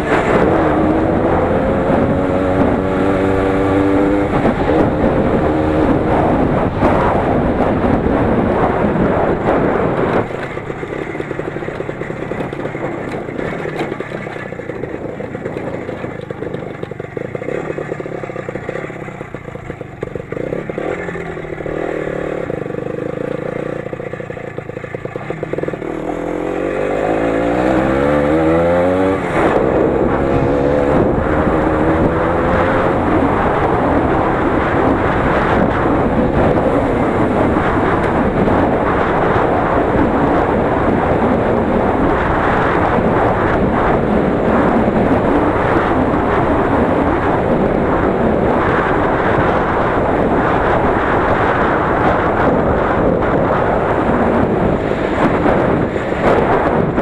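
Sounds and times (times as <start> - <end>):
motorcycle engine accelerating: 0.0 - 57.0
wind on microphone: 0.0 - 57.0.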